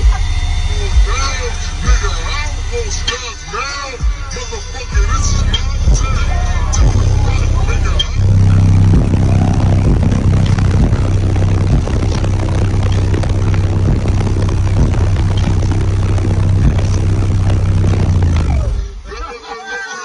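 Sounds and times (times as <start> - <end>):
distorted low bass note: 0.0 - 19.2.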